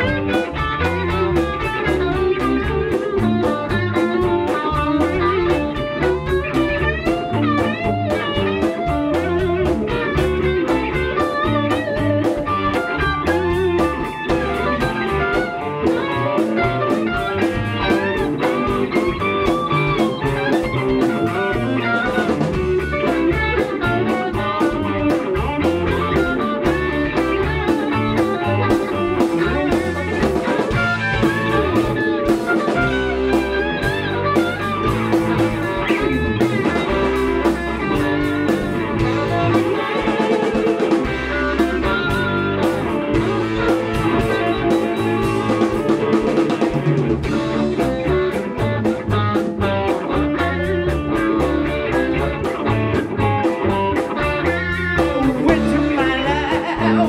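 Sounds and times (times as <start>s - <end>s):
live rock band playing: 0.0s - 57.0s
wavering lead guitar lines: 0.0s - 57.0s.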